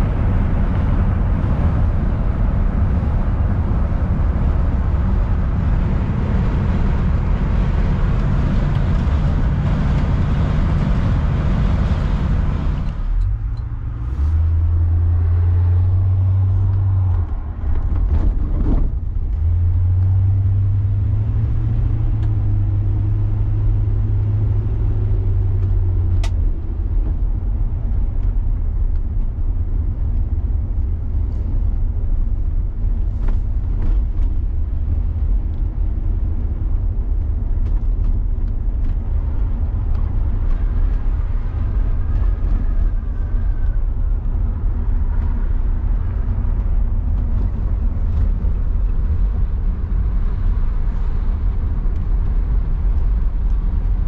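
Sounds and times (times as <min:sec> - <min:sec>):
low engine and exhaust hum: 0:00.0 - 0:54.0
road and wind noise in car: 0:00.0 - 0:54.0.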